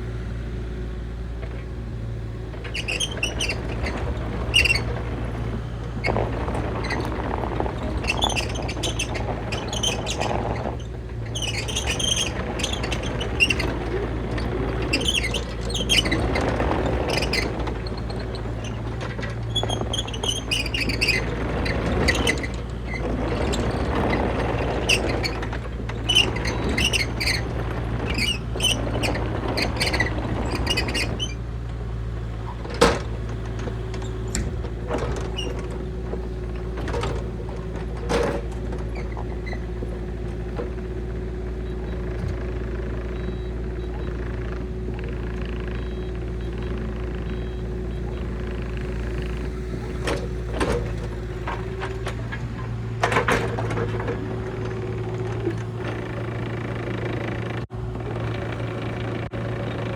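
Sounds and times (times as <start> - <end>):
excavator diesel engine running: 0.0 - 59.9
squeaks from moving parts: 1.5 - 59.9
hydraulic whine: 2.5 - 59.9.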